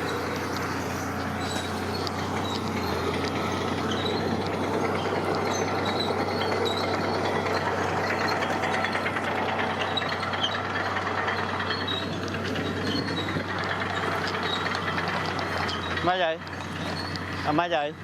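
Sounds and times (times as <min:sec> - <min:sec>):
heavy machine engine running: 0:00.0 - 0:18.0
rattling and clanking: 0:00.0 - 0:18.0.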